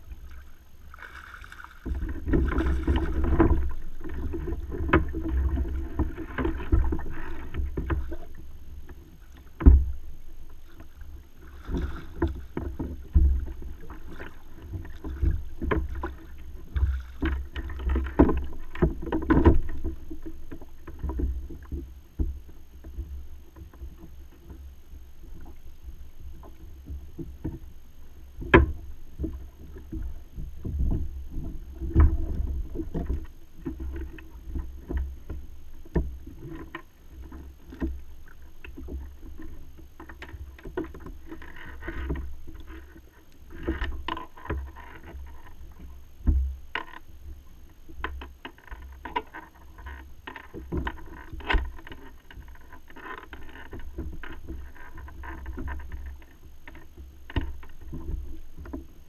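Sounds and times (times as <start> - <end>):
water sloshing against kayak hull: 0.0 - 59.0.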